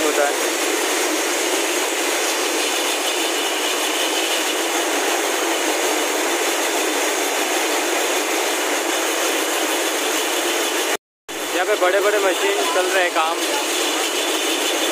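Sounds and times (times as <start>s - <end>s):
spinning machines running din: 0.0s - 14.9s.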